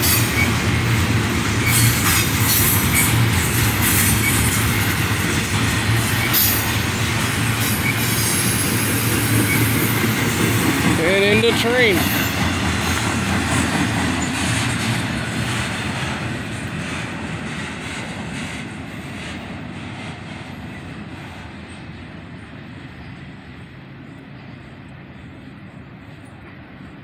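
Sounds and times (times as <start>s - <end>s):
freight train rumbling and rattling: 0.0s - 27.0s.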